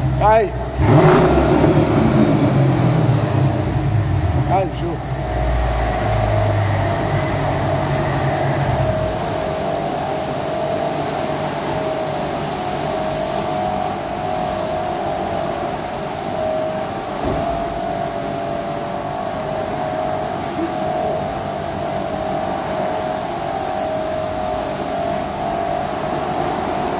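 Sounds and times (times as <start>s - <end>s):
car engine idling: 0.0s - 26.9s
high supercharger whine: 0.0s - 26.9s.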